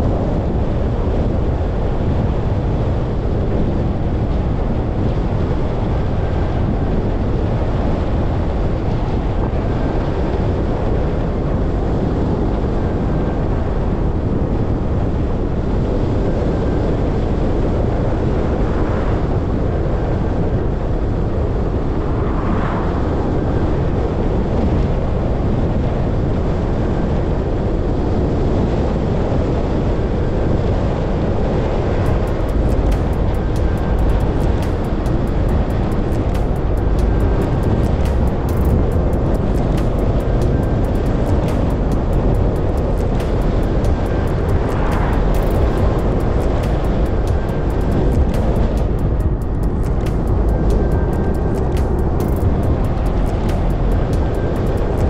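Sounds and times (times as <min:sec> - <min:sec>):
car road and wind noise: 0:00.0 - 0:55.0.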